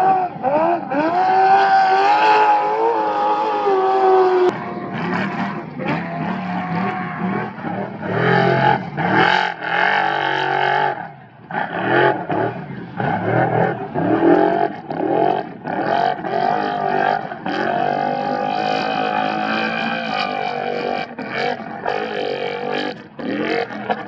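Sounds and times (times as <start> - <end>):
engine revving hard: 0.0 - 24.0.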